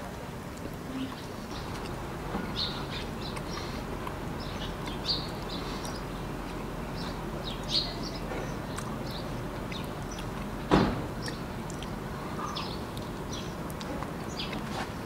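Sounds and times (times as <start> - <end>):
small birds chirping: 0.9 - 15.0.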